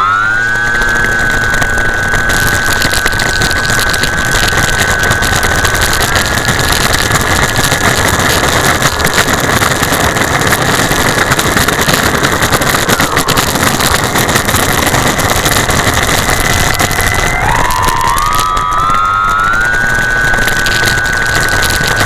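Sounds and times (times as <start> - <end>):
electric motor and propeller whining: 0.0 - 22.0
loud rushing noise: 0.0 - 22.0.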